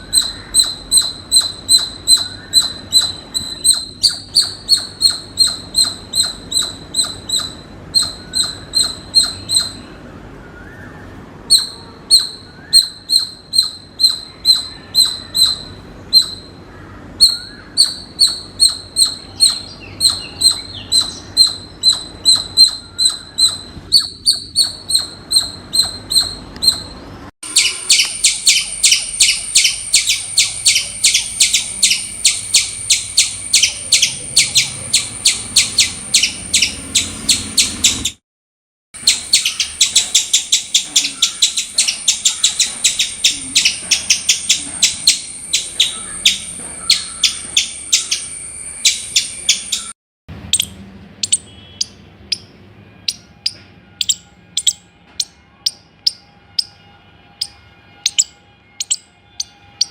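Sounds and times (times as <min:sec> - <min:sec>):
squirrel alarm chirps: 0:00.0 - 0:10.0, 0:11.5 - 0:38.2, 0:39.0 - 0:49.9, 0:50.5 - 0:59.9.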